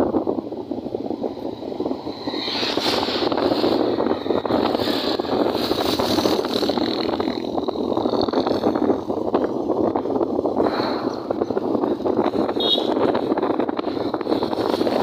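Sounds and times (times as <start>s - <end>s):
vehicle road noise: 0.0s - 15.0s
wind rushing over microphone: 0.0s - 15.0s.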